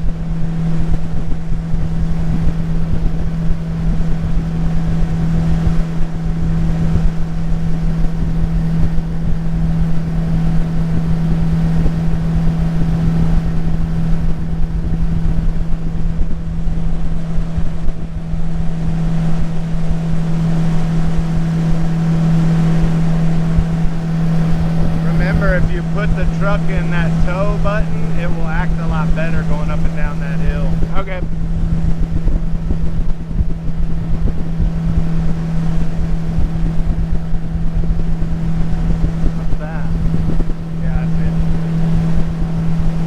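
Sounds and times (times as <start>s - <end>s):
outboard motor droning: 0.0s - 43.0s
wind buffeting microphone: 0.0s - 43.0s.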